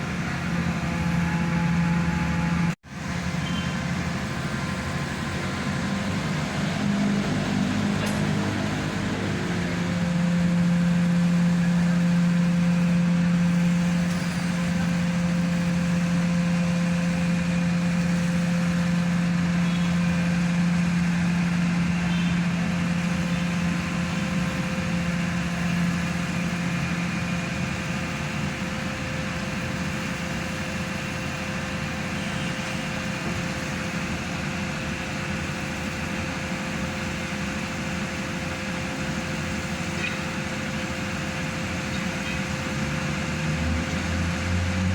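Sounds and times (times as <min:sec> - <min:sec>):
pile driver engine humming: 0:00.0 - 0:44.9.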